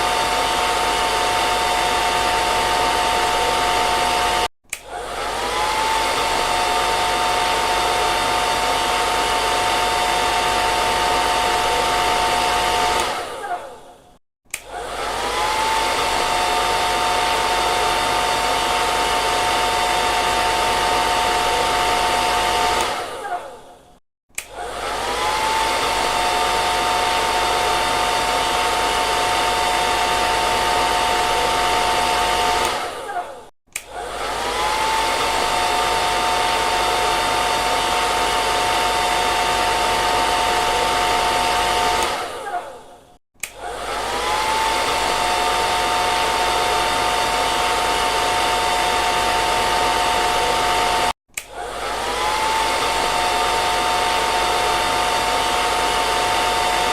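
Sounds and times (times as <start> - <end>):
hair dryer blowing: 0.0 - 56.9.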